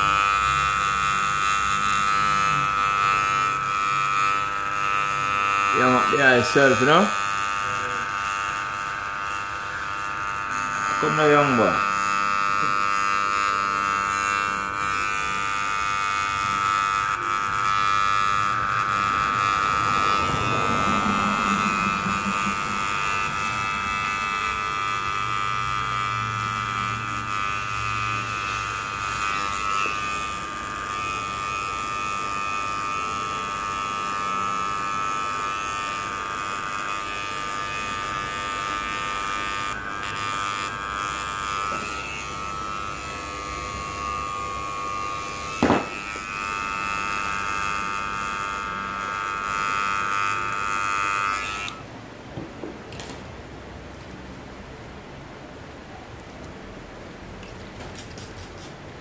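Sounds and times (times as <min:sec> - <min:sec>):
electric hair clippers buzzing: 0:00.0 - 0:54.8, 0:57.4 - 0:59.0.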